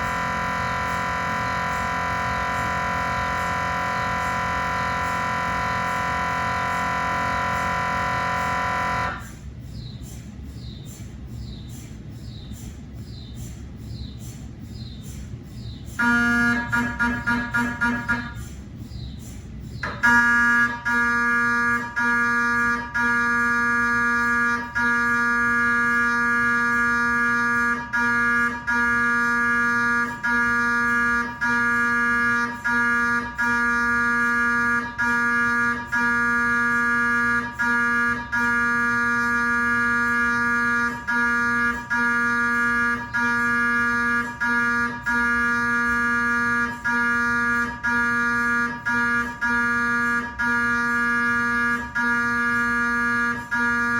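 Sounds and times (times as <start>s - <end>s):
mri scanner buzz: 0.0s - 9.4s, 16.0s - 18.6s, 19.8s - 53.9s.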